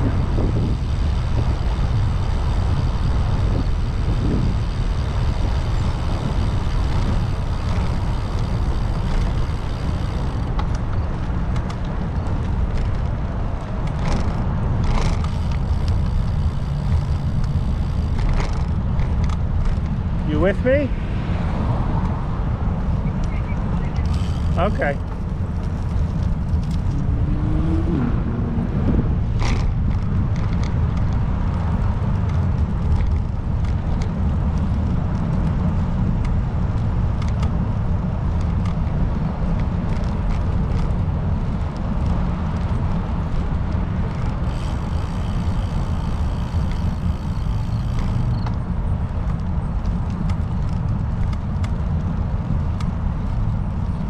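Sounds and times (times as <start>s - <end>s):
road and wind rumble: 0.0s - 54.0s.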